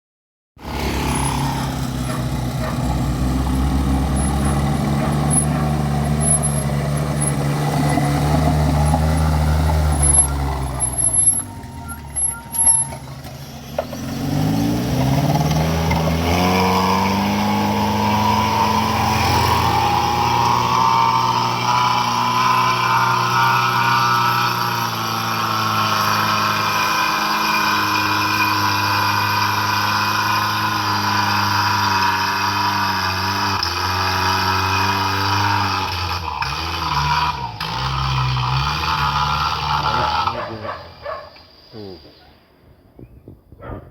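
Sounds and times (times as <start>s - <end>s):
heavy vehicle engine running: 0.6s - 40.6s.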